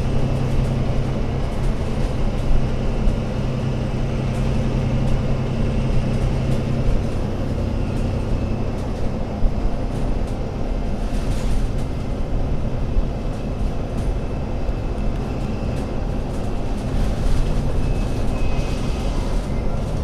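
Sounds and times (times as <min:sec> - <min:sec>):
bus diesel engine running: 0:00.0 - 0:20.0
road rumble: 0:00.0 - 0:20.0.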